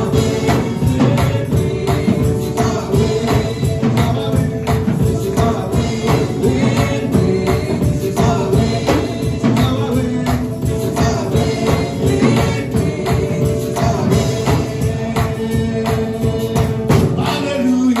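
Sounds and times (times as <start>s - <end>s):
singing: 0.0s - 18.0s
tambourine shaking: 0.0s - 18.0s
worship band playing: 0.0s - 18.0s.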